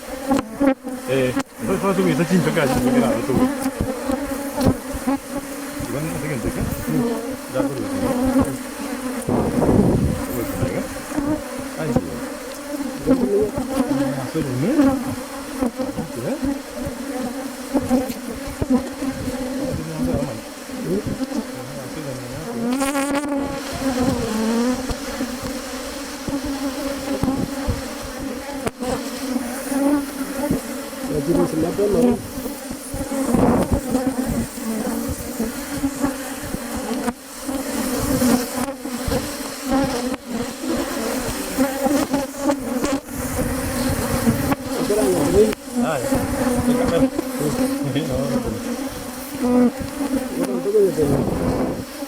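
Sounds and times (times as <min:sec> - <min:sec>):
honeybees buzzing: 0:00.0 - 0:52.0.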